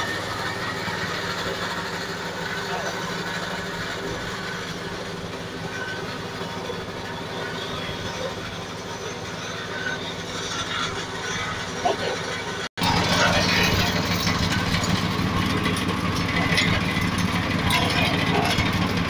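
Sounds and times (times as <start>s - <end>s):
milling machine humming: 0.0s - 19.0s.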